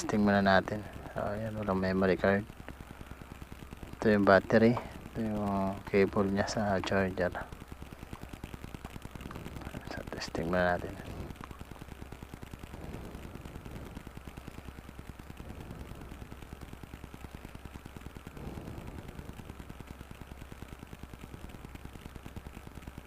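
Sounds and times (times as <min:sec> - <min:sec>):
low hum: 0:00.0 - 0:23.0
rapid even ticking: 0:00.0 - 0:23.0.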